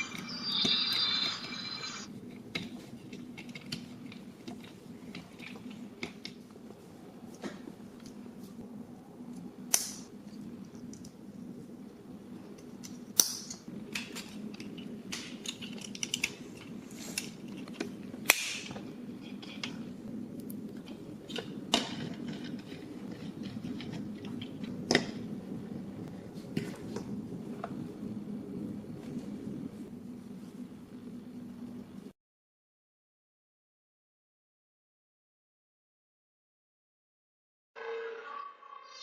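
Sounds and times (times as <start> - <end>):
low hum: 0.0 - 32.2.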